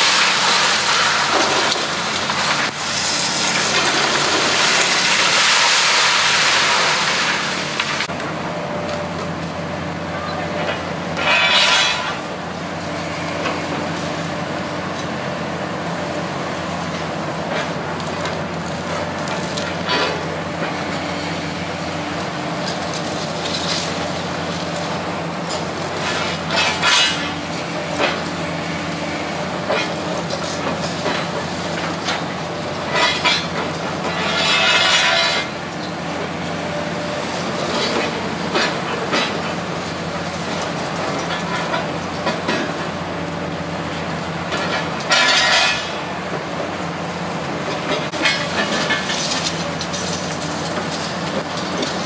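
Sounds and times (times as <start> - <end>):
excavator engine running: 0.0 - 52.0.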